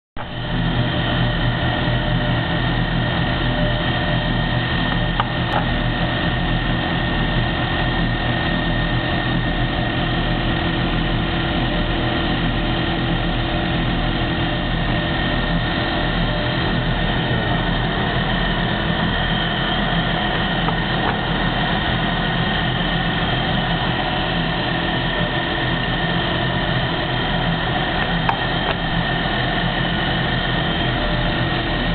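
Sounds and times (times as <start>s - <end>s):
lathe humming and whining: 0.2s - 31.9s.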